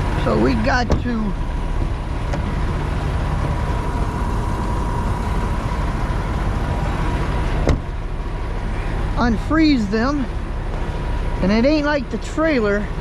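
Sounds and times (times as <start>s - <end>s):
faint steady whine: 0.0s - 13.0s
truck diesel engine idling: 0.0s - 13.0s.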